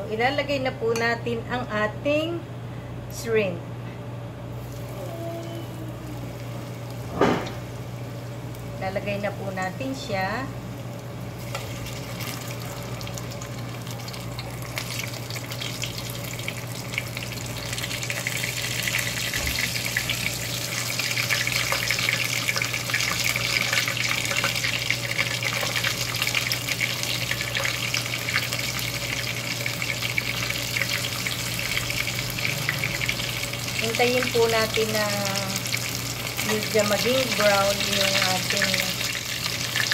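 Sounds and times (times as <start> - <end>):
shrimp deep-frying in oil: 4.6 - 39.9.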